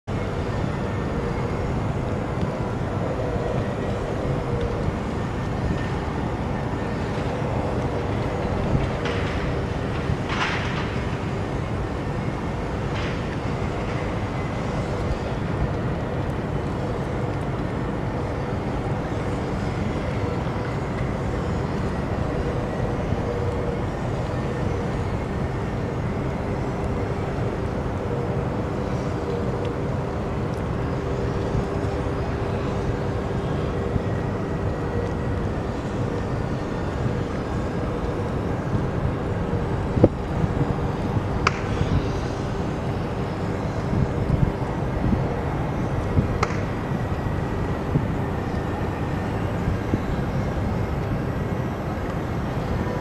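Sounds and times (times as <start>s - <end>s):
faint hum tones: 0.0s - 53.0s
industrial machinery rumble: 0.0s - 53.0s.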